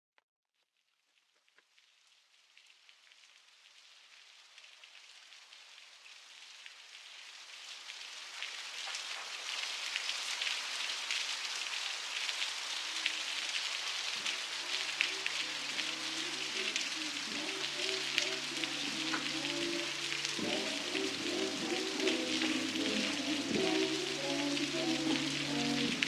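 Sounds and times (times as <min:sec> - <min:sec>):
rain patter: 0:01.5 - 0:26.0.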